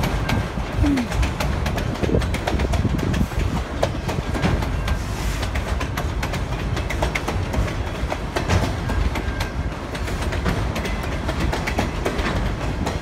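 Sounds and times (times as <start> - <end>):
sharp clicks and clanks: 0.0 - 13.0
train wheels rumbling on rail: 0.0 - 13.0.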